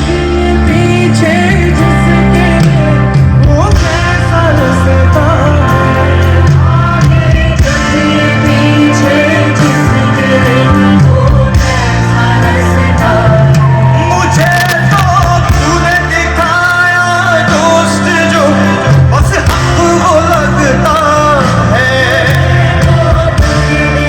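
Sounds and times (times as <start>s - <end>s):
lead vocalist singing: 0.0s - 24.0s
live band playing: 0.0s - 24.0s.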